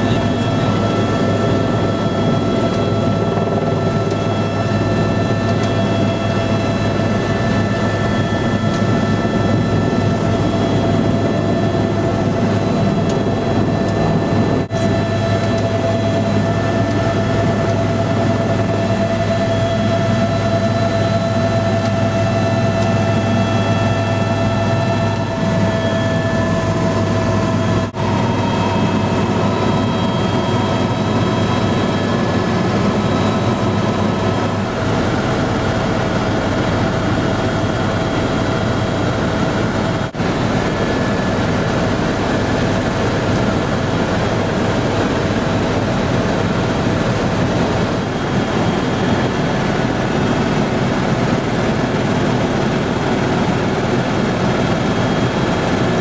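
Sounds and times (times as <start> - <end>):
helicopter cabin drone and whine: 0.0 - 56.0.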